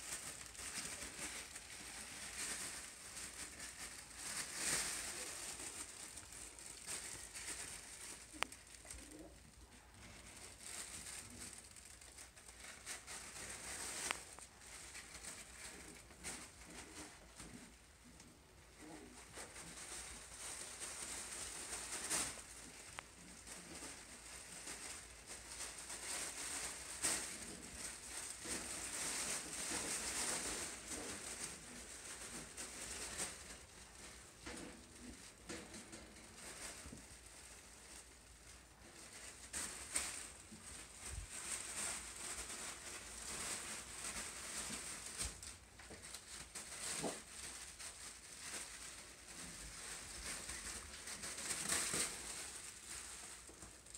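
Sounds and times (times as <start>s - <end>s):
puppy paws pattering on tile: 0.0s - 17.8s, 18.8s - 53.9s
light crinkling: 0.0s - 53.9s.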